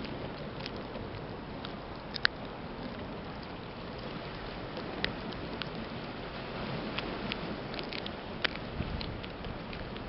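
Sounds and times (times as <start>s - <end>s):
cat chewing fish: 0.0s - 10.0s.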